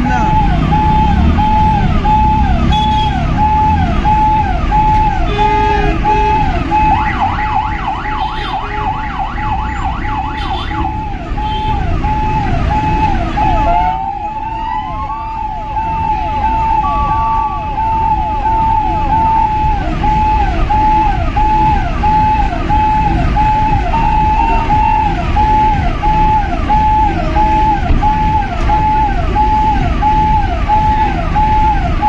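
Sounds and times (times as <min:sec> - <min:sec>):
electronic siren: 0:00.0 - 0:32.0
rising siren whoops: 0:00.0 - 0:32.0.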